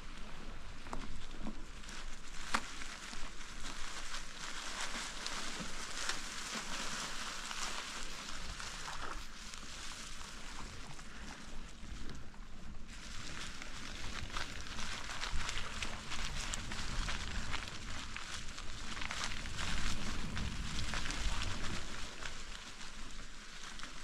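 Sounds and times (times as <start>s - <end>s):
bicycle tyres on dry leaves: 0.0s - 24.0s.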